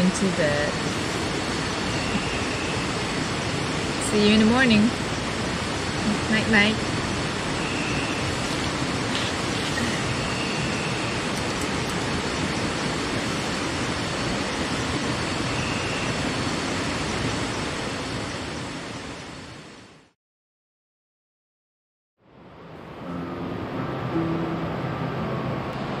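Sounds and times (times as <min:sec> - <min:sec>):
river water rushing: 0:00.0 - 0:18.9, 0:22.4 - 0:26.0.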